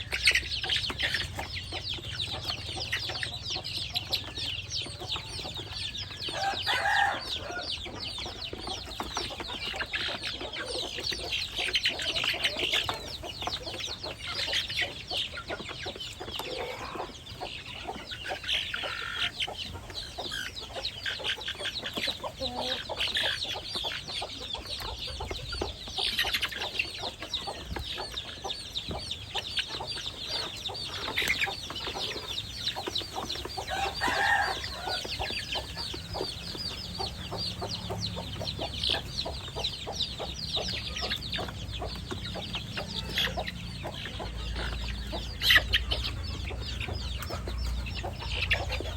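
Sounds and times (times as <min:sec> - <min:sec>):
chicks cheeping: 0:00.0 - 0:48.9.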